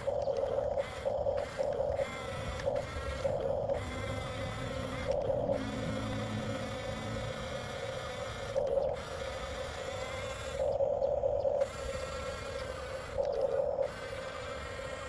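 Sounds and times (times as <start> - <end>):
toy bulldozer motors whirring: 0.0 - 15.0.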